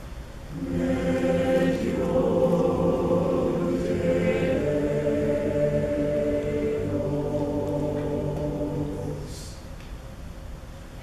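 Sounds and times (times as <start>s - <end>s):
choir holding a chord: 0.5s - 9.7s.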